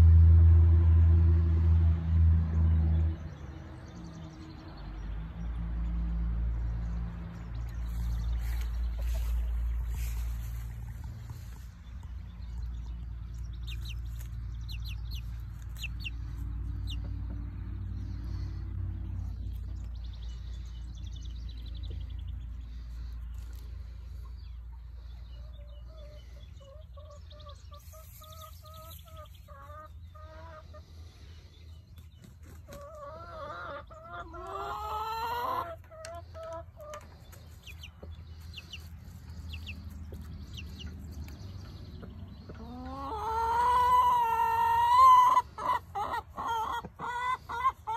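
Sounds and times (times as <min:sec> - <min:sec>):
young chickens peeping: 0:02.4 - 0:47.9.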